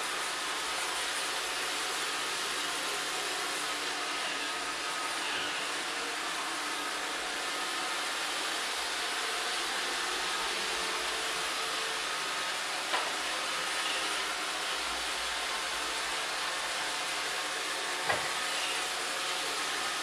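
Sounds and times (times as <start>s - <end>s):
robot vacuum whirring: 0.4s - 20.0s.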